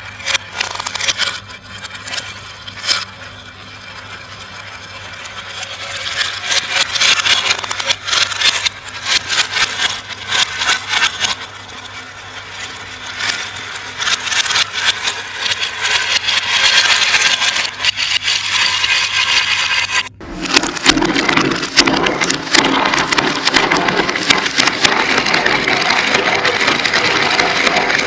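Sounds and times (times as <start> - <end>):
glass marbles rolling and clattering: 0.2 - 28.0.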